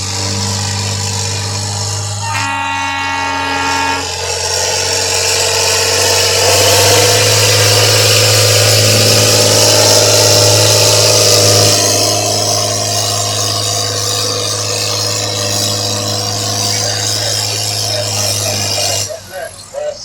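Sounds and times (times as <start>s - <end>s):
horn sounding: 0.0s - 19.8s
tractor engine running loud: 0.0s - 20.0s.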